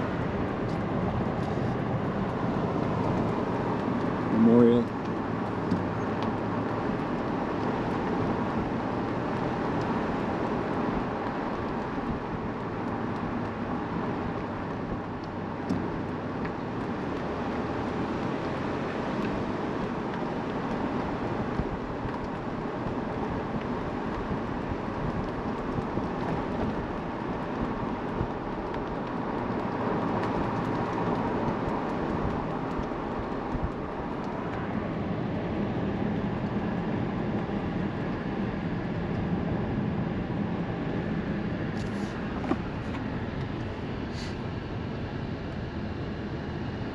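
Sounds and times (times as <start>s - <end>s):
car road and engine noise: 0.0s - 46.9s.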